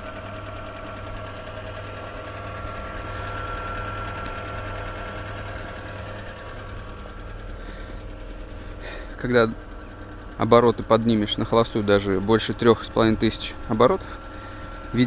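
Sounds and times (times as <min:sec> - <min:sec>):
car engine idling: 0:00.0 - 0:15.0
engine lifter ticking: 0:00.0 - 0:15.0.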